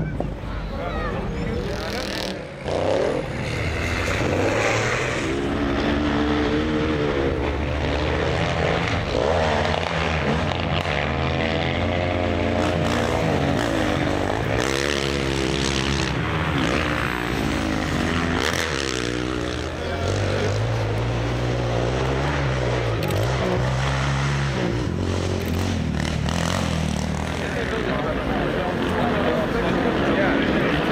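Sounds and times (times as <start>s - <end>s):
motorcycle engines revving: 0.0s - 30.9s.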